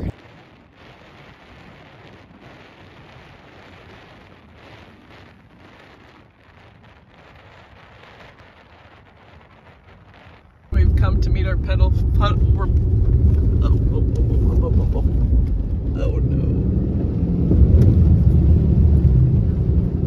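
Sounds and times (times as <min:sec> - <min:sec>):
faint crackly rustle: 0:00.0 - 0:16.2
wind hiss: 0:00.0 - 0:20.0.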